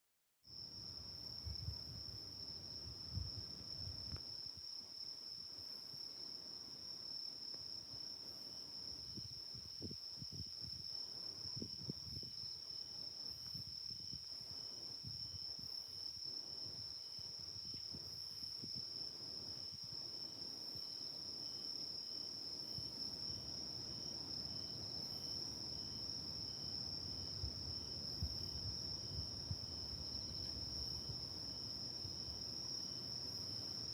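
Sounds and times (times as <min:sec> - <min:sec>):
faint low insect chirp: 0:00.5 - 0:33.9
high-pitched insect trill: 0:05.3 - 0:33.9.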